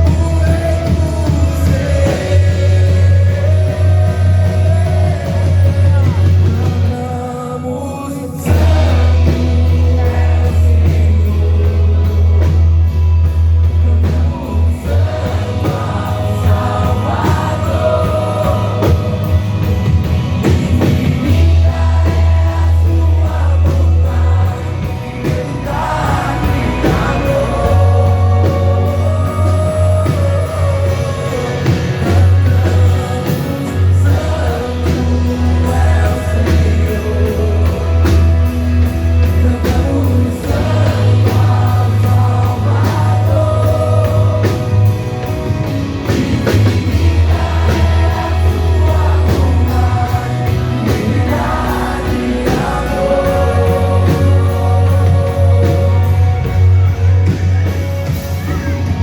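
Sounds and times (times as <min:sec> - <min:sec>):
worship band music: 0:00.0 - 0:59.0.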